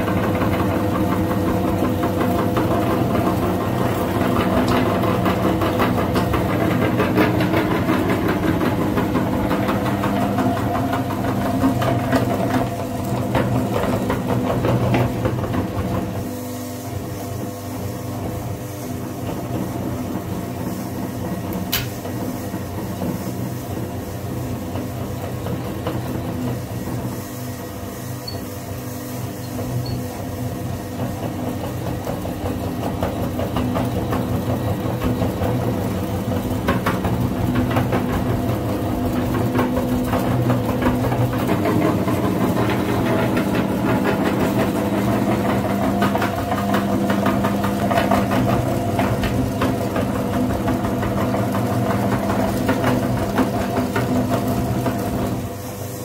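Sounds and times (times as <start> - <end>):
meat grinder motor humming: 0.0 - 56.0.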